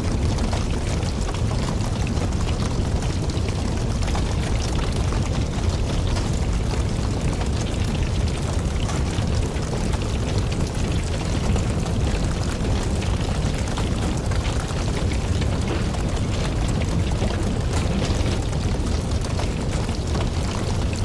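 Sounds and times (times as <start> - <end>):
rush of flames: 0.0 - 21.0
crackles and pops from logs: 0.1 - 21.0.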